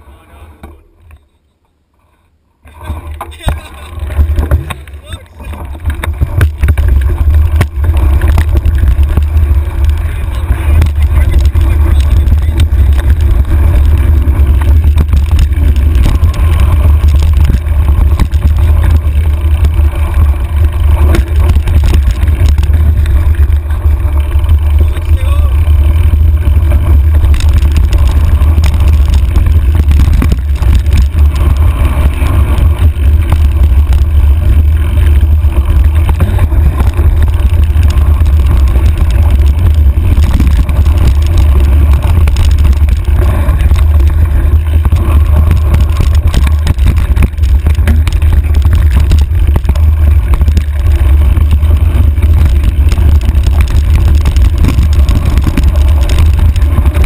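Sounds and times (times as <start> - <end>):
bike knocks and rattles: 2.7 - 57.0
wind buffeting microphone: 5.5 - 57.0.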